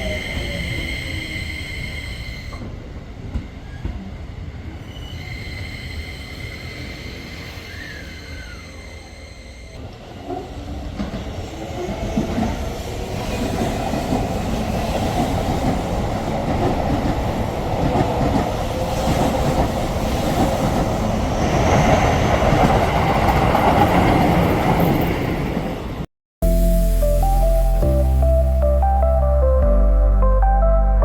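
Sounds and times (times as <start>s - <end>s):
electric train passing on rails: 0.0s - 28.2s.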